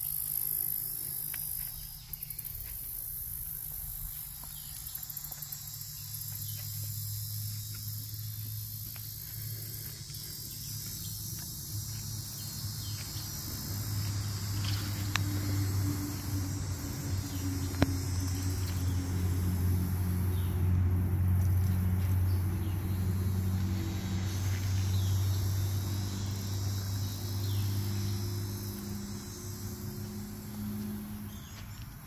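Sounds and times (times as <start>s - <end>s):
insects chirring: 0.0s - 32.0s
low engine drone: 0.0s - 32.0s.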